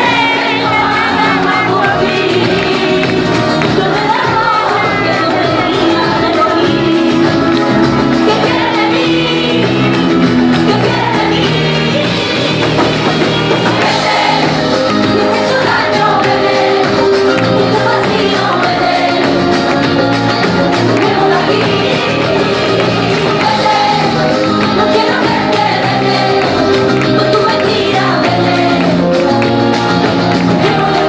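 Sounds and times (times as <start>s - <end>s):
woman singing into a microphone: 0.0s - 29.4s, 30.3s - 31.0s
drums: 0.0s - 31.0s
electric guitar: 0.0s - 31.0s
keyboard: 0.0s - 31.0s.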